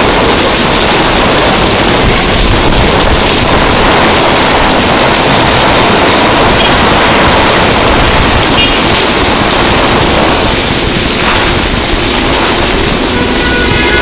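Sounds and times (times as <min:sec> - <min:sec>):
strong gusting wind: 0:00.0 - 0:14.0
torrential rain: 0:00.0 - 0:14.0.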